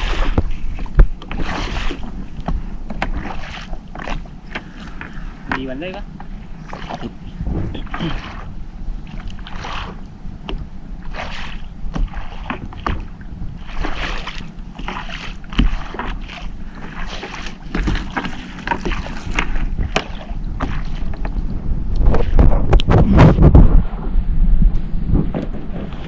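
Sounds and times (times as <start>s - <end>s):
water splashing: 0.0s - 24.2s
boat engine running: 0.0s - 26.0s.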